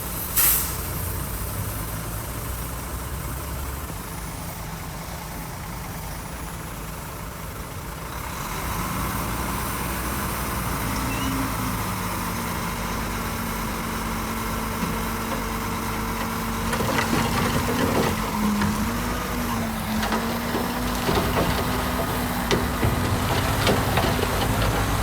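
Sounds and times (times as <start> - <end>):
heavy diesel engine running: 1.2 - 25.0.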